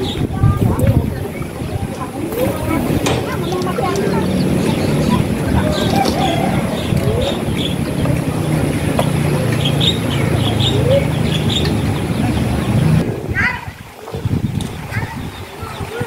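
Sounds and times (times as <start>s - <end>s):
small birds chirping: 0.0s - 13.0s
low motor hum: 0.0s - 13.2s.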